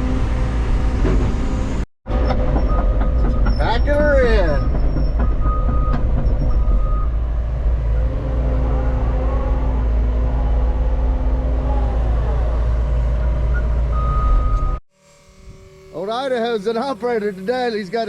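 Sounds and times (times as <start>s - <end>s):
diesel engine rumbling: 0.0s - 14.8s.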